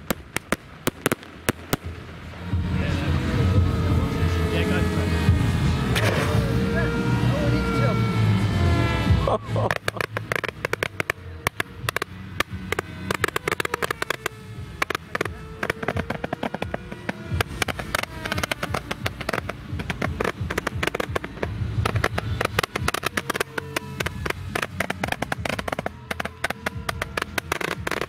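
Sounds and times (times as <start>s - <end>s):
firework firing rapid shots: 0.0s - 28.0s.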